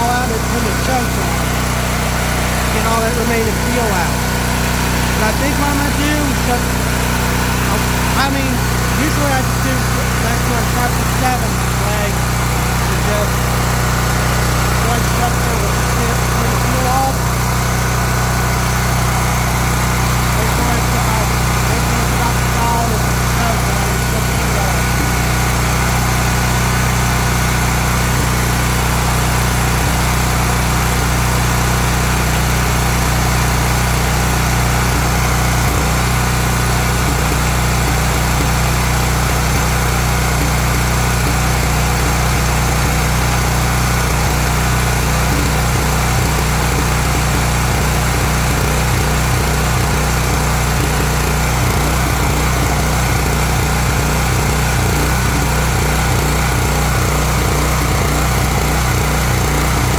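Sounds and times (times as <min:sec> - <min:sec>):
generator engine running: 0:00.0 - 0:59.9.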